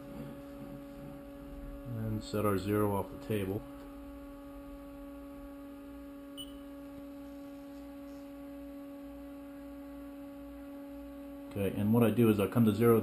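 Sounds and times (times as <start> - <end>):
milling machine electrical hum: 0.0 - 13.0.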